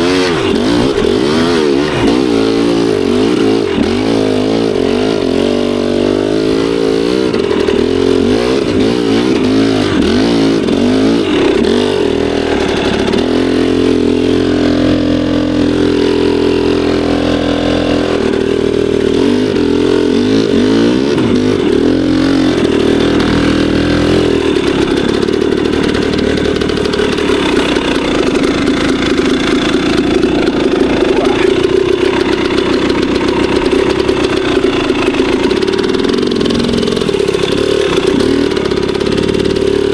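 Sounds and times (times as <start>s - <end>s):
two-stroke dirt bike engine revving: 0.0s - 39.9s.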